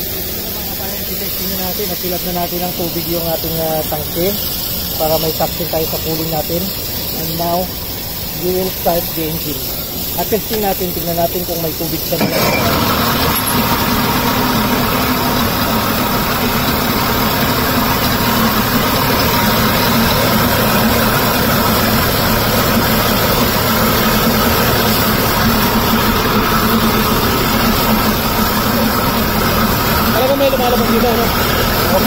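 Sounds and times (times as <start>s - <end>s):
exhaust churning water: 0.0s - 32.0s
outboard motor idling: 0.0s - 32.0s
water stream spurting: 0.0s - 32.0s.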